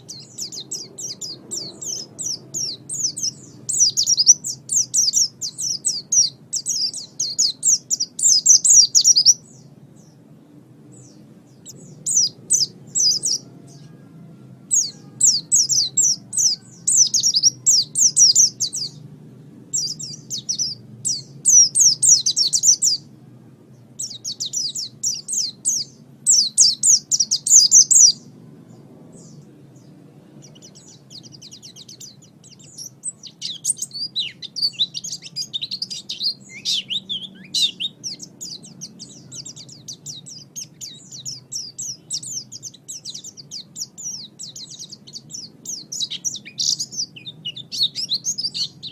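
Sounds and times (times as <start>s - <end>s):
bird singing high chattering phrases: 0.0s - 48.9s
faint low hum: 0.0s - 48.9s.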